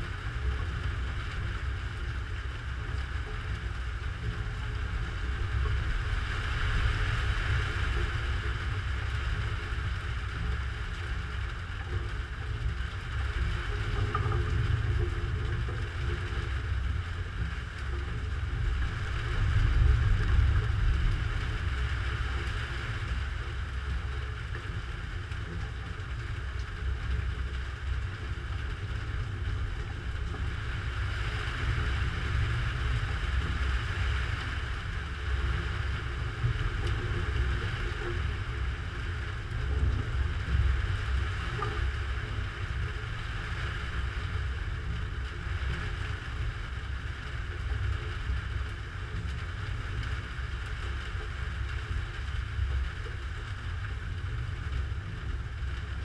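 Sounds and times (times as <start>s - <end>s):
low rumble with hiss: 0.0s - 56.0s.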